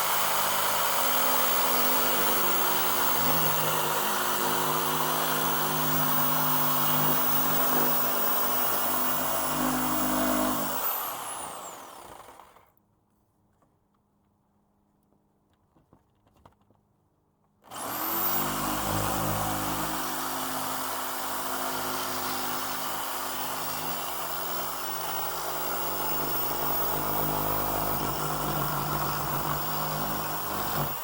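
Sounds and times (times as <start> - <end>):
electric power saw cutting: 0.0 - 12.7, 17.7 - 31.0.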